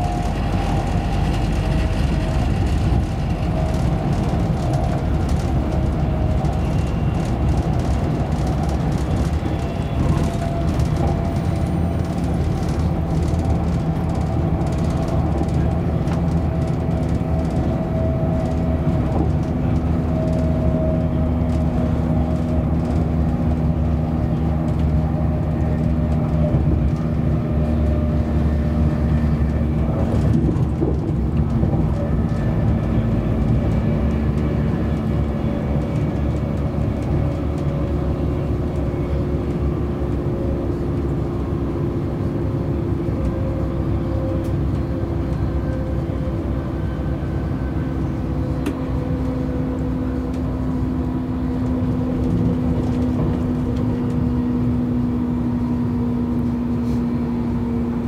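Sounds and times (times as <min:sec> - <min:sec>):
train interior rumble: 0:00.0 - 0:58.0.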